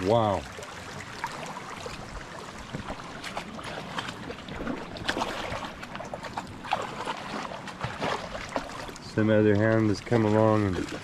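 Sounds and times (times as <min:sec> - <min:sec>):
shallow creek water running: 0:00.0 - 0:11.0
water splashing: 0:00.0 - 0:11.0.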